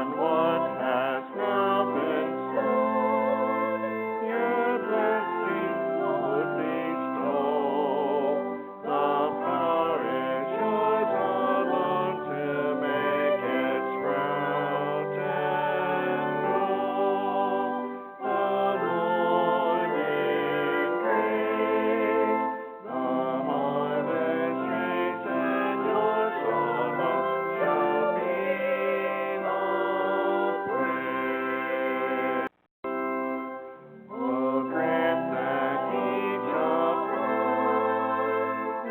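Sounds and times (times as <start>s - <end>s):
hymn singing with instruments: 0.0s - 38.9s.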